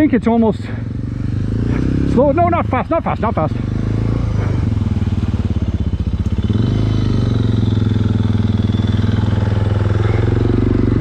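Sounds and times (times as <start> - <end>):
motorcycle engine running low revs: 0.0 - 11.0.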